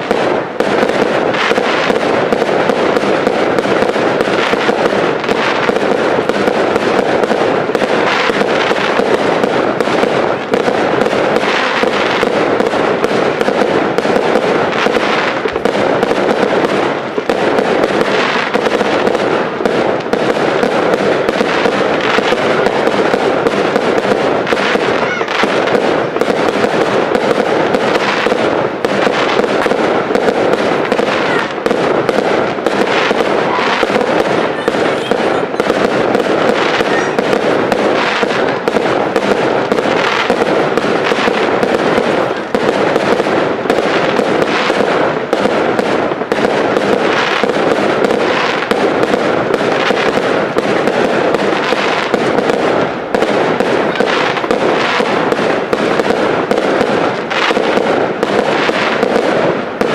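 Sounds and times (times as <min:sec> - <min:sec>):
firework shells bursting: 0:00.0 - 0:59.9
fireworks crackling: 0:00.0 - 0:59.9.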